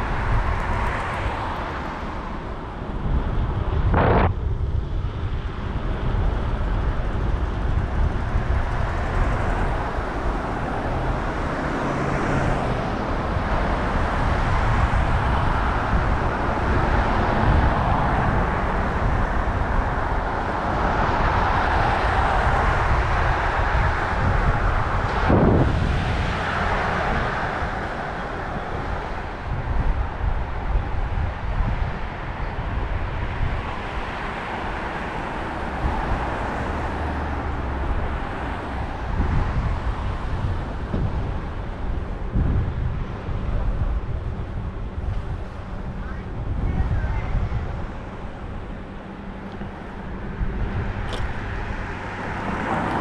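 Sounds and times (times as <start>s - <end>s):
city street traffic: 0.0s - 53.0s
wind buffeting microphone: 0.0s - 53.0s.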